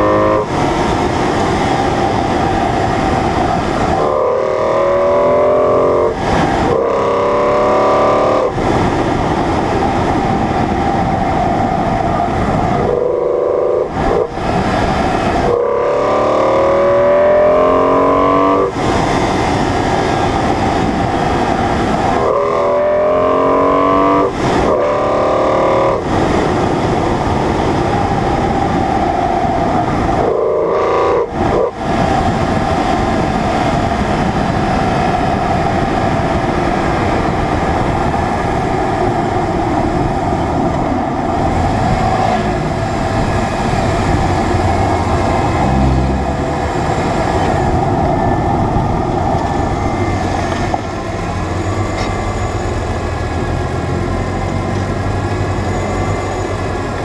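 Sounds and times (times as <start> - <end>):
car engine revving: 0.0 - 27.4, 29.2 - 34.0, 40.0 - 57.0
road and wind noise: 0.0 - 57.0.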